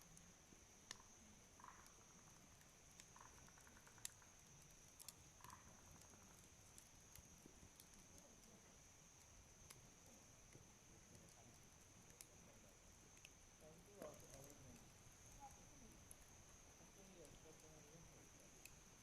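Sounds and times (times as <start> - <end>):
faint campfire crackle: 0.0 - 19.0.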